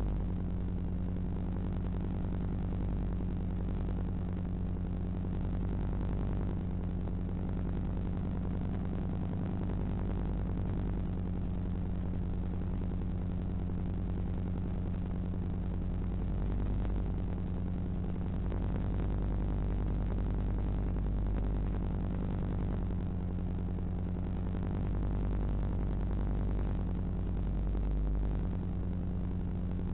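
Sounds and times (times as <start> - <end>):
electrical hum and buzz with hiss: 0.0 - 29.9.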